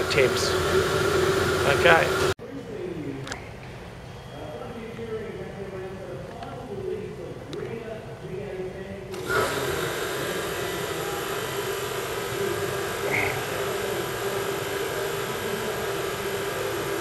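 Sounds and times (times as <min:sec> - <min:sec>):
fan or blower running: 0:00.0 - 0:02.8, 0:05.1 - 0:17.0.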